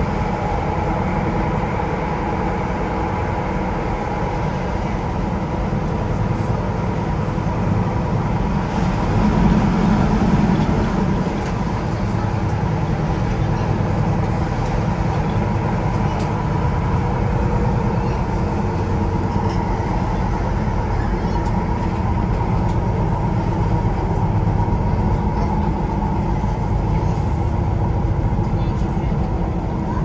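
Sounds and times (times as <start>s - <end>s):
wheels rumbling on rails: 0.0s - 30.0s.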